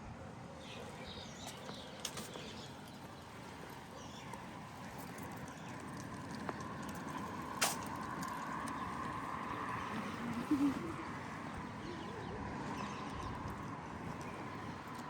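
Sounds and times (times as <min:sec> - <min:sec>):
low hum of distant traffic: 0:00.0 - 0:15.0.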